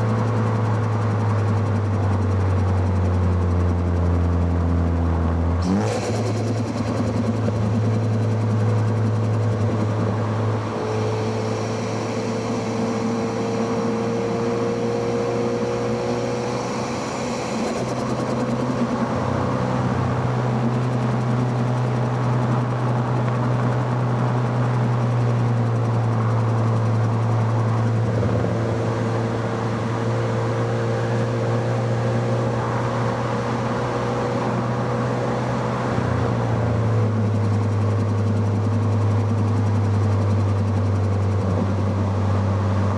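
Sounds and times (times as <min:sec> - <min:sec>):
sports car engine drone: 0:00.0 - 0:42.9.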